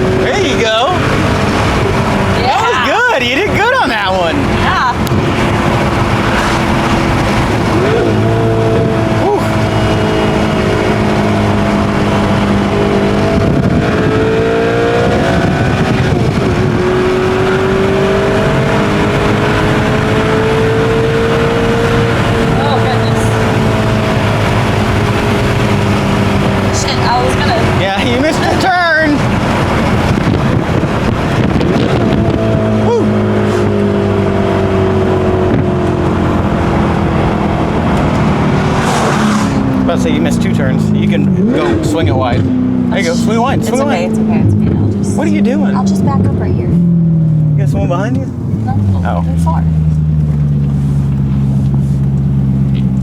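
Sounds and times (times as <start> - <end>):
car engine accelerating: 0.0 - 53.0
road noise: 0.0 - 53.0.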